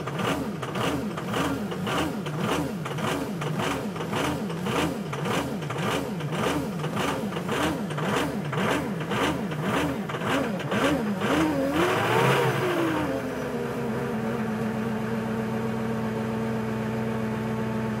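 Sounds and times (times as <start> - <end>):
diesel engine cranking and starting: 0.0 - 15.4
engine idling: 0.0 - 18.0.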